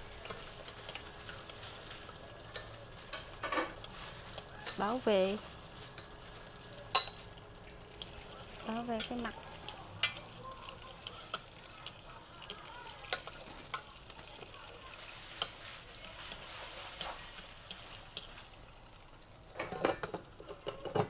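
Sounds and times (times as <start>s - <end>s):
food sizzling in oil: 0.0s - 21.0s
oil popping: 0.0s - 21.0s.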